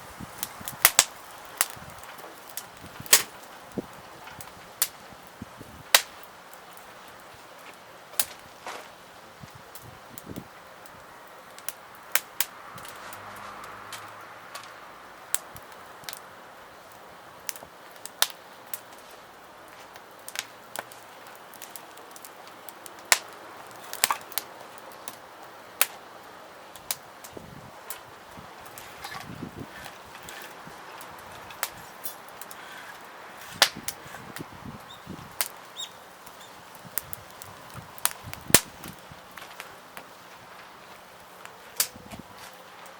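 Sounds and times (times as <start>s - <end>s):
wood fire crackling: 0.0s - 42.9s
sharp snaps and pops: 0.3s - 5.1s, 5.9s - 8.8s, 9.7s - 16.3s, 16.9s - 26.1s, 26.7s - 42.2s.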